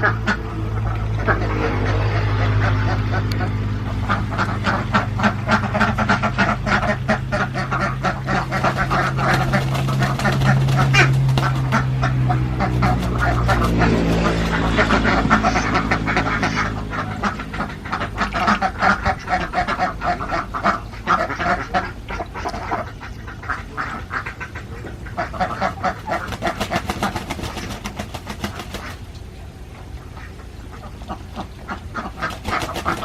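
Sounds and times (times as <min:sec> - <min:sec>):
ducks quacking: 0:00.0 - 0:33.0
low steady hum: 0:00.0 - 0:33.0.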